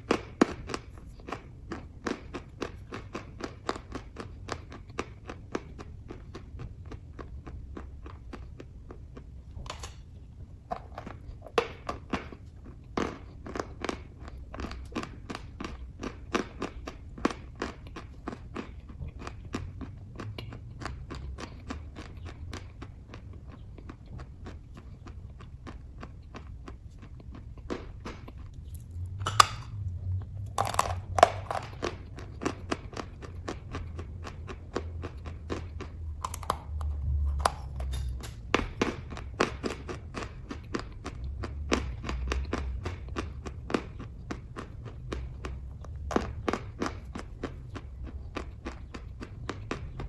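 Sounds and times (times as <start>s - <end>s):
close chewing with mouth clicks: 0.0s - 50.0s
low steady hum: 0.0s - 50.0s.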